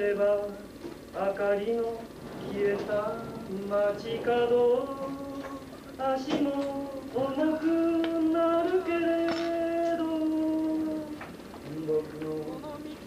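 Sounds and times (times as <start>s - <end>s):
person singing slow melody: 0.0s - 13.0s.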